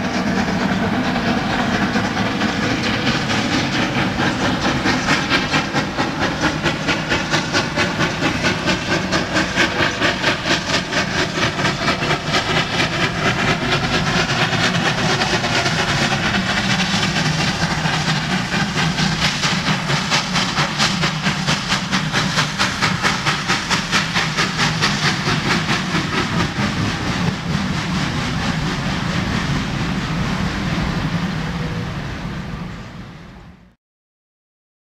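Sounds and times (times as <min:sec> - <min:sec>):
steam locomotive chuffing: 0:00.0 - 0:33.6
rumble of train wagons: 0:00.0 - 0:33.8.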